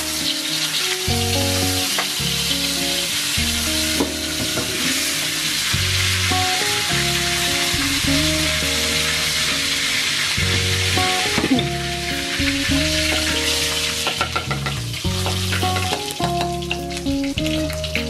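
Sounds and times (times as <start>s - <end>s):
background music: 0.0s - 18.0s
oil sizzling in a wok: 0.0s - 18.0s.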